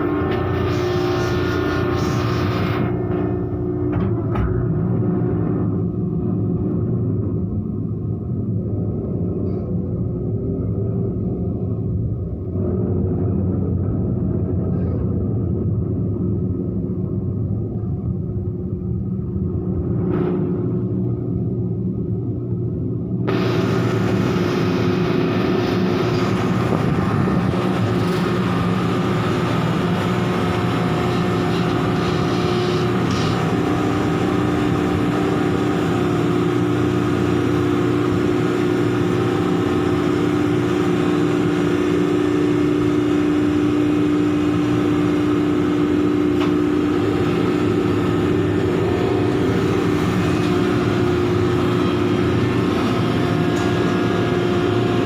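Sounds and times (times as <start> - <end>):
heavy machinery engine drone: 0.0 - 55.0.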